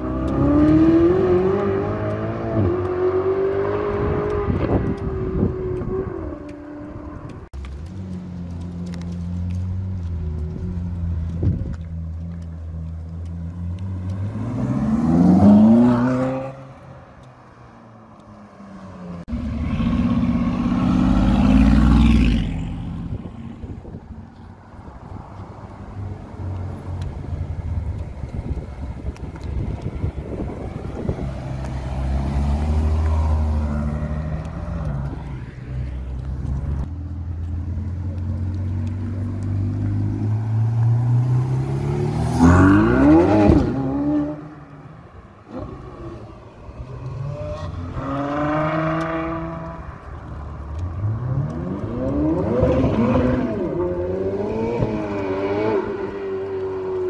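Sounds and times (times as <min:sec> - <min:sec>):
sports car engine accelerating: 0:00.0 - 0:24.2, 0:25.4 - 0:57.0.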